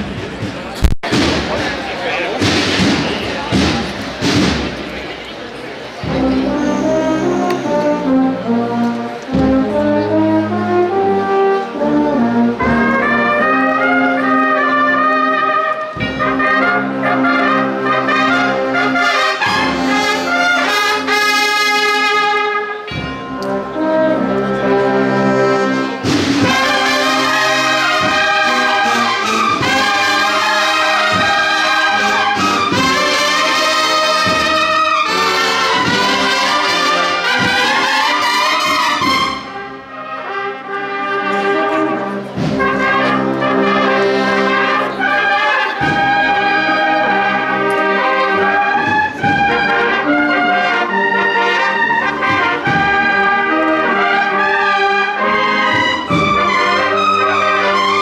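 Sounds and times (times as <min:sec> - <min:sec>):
marching drums: 0:00.0 - 0:05.2, 0:06.0 - 0:07.0, 0:09.3 - 0:09.9, 0:12.5 - 0:24.0, 0:25.2 - 0:39.6, 0:41.4 - 0:58.0
cornets playing held chords: 0:06.0 - 0:58.0.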